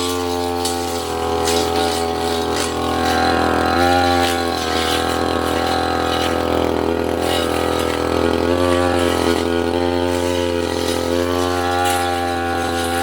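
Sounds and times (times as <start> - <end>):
brush cutter engine cutting brush: 0.0 - 13.0.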